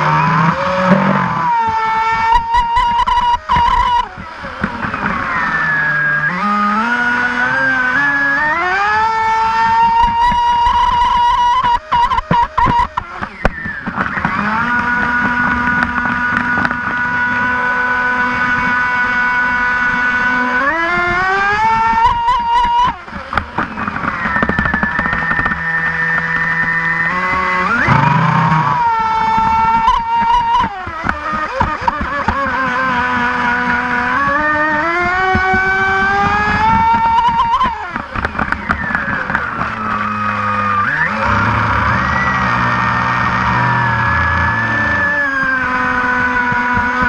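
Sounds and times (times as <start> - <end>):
electric motor whining: 0.0 - 47.0.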